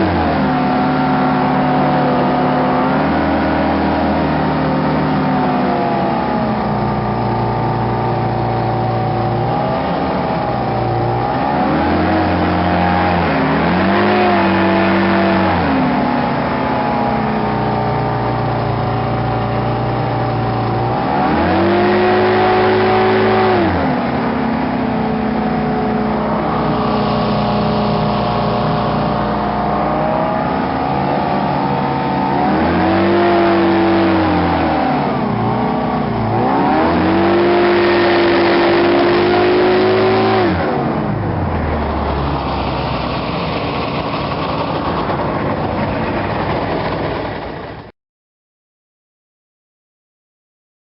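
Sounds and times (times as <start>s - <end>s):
hovercraft engine revving: 0.0s - 47.9s.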